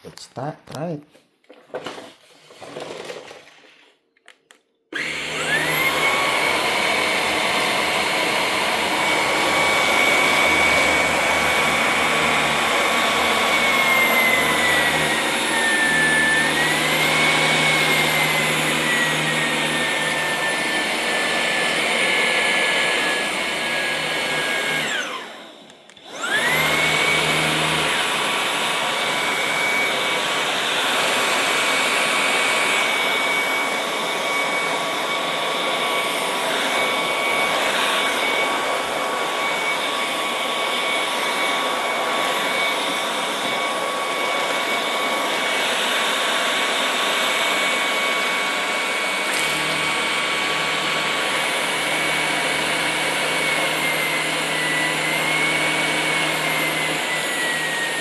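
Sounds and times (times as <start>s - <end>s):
cordless vacuum whining: 1.6s - 58.0s.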